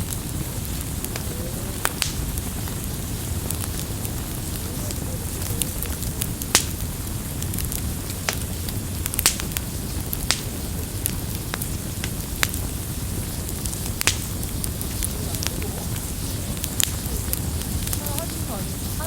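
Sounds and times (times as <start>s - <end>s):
burning wood crackling and popping: 0.0s - 19.0s
fire flames rumbling: 0.0s - 19.0s.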